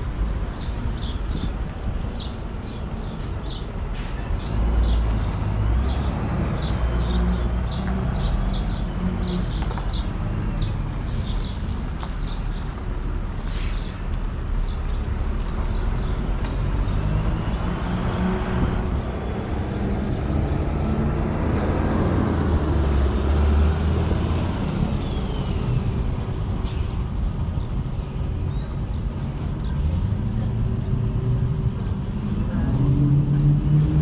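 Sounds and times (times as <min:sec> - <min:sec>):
vehicle engine and road noise: 0:00.0 - 0:34.0.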